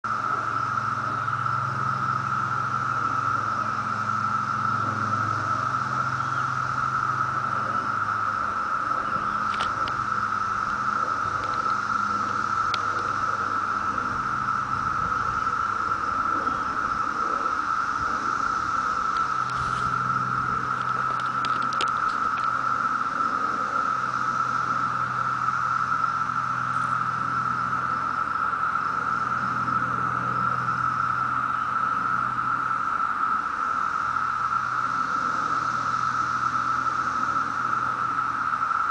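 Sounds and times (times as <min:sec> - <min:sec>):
cicadas droning: 0:00.0 - 0:38.9
low hum: 0:00.0 - 0:38.9.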